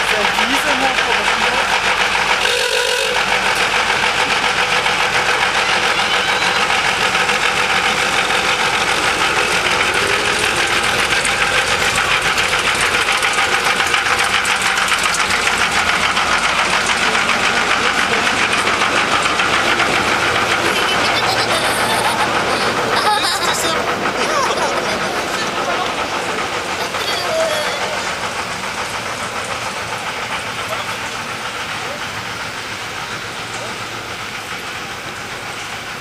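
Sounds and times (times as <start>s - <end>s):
passenger cars rolling on track: 0.0s - 36.0s
small train rhythmic knocking: 0.0s - 36.0s.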